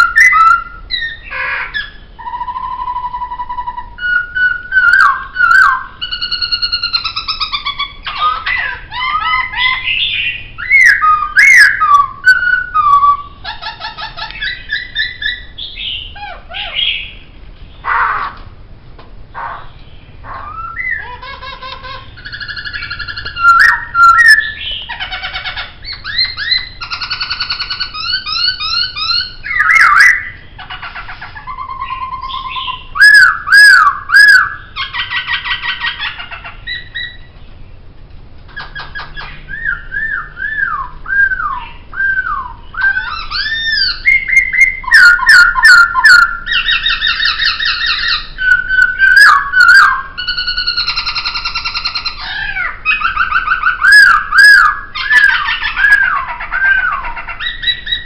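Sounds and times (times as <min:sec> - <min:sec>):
laughingthrush singing: 0:00.0 - 0:18.5, 0:19.2 - 0:37.4, 0:38.4 - 0:58.0.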